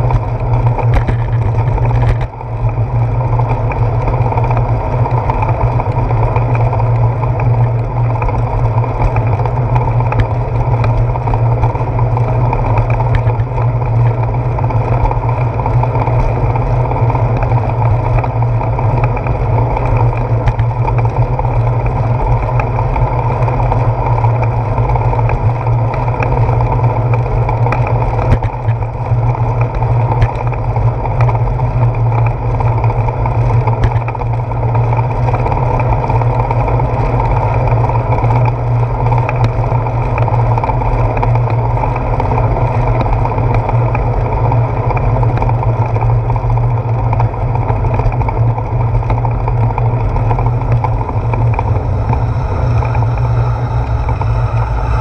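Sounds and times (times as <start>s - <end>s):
wind and road rumble: 0.0s - 55.0s
small ticks: 3.4s - 55.0s.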